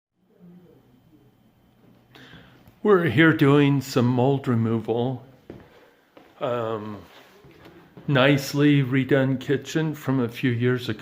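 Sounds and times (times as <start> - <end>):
low steady hum: 0.2 - 11.0.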